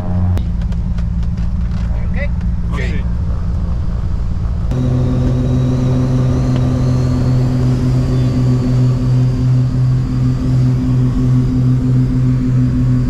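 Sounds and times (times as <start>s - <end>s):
aircraft piston engine drone: 0.0s - 13.0s.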